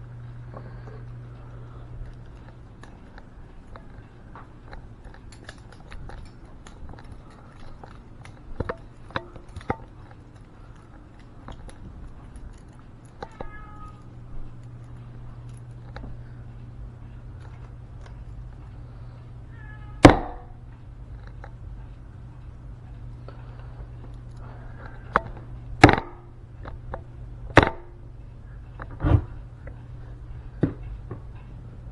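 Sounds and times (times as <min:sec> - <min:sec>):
low hum: 0:00.0 - 0:31.9.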